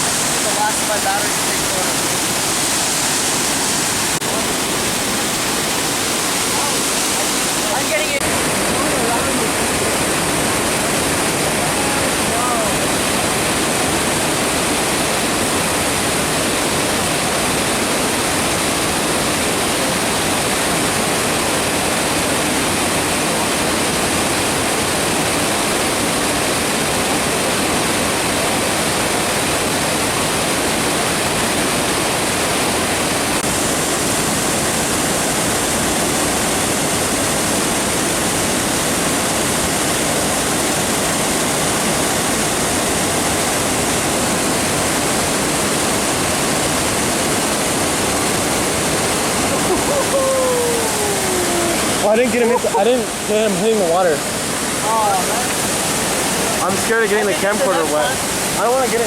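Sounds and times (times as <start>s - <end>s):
waterfall crashing: 0.0s - 59.0s.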